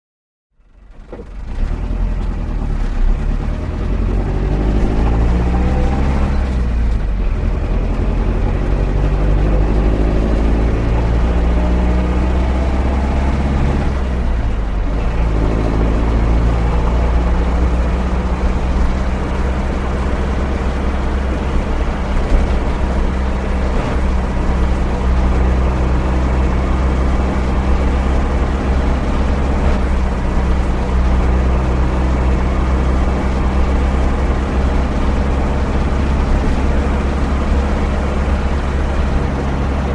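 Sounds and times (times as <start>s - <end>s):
van engine droning: 0.6s - 39.9s.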